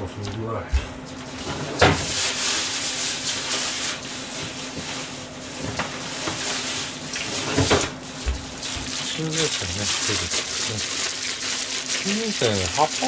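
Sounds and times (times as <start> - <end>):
pans sizzling and hissing: 1.1 - 13.0.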